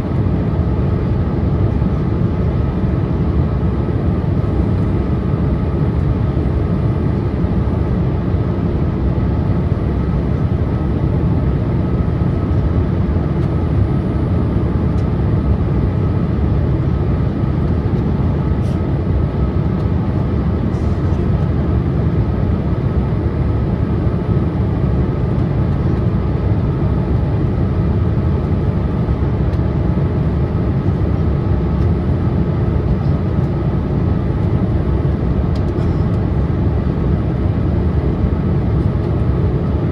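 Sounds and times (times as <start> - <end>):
aircraft cabin roar: 0.0 - 39.9.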